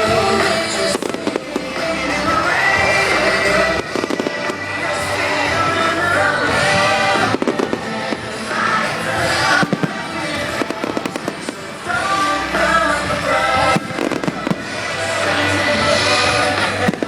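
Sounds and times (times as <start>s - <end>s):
fireworks bangs and crackles: 0.0s - 17.0s
pop music with singing: 0.0s - 17.0s.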